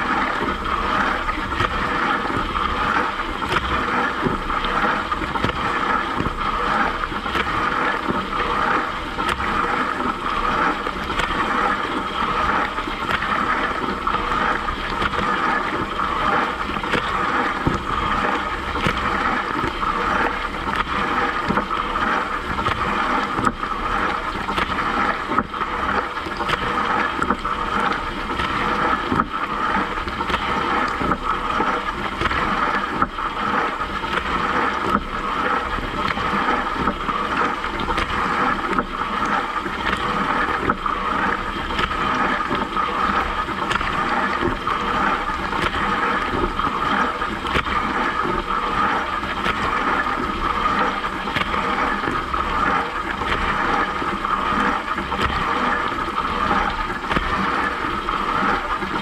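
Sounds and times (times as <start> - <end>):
dishwasher water jets splashing: 0.0 - 59.0.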